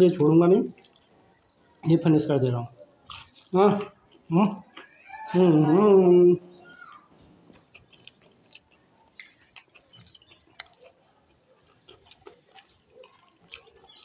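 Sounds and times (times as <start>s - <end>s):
chewing crunchy fried food: 0.2s - 2.0s, 2.7s - 6.0s, 6.6s - 14.0s.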